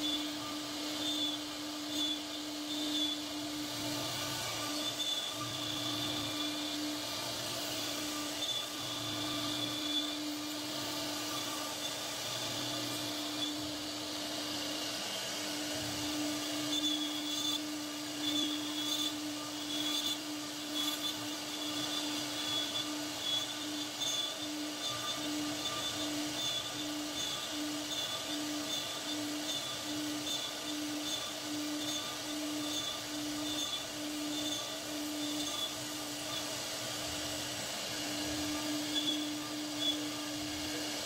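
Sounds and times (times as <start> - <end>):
router spindle whining: 0.0 - 41.0.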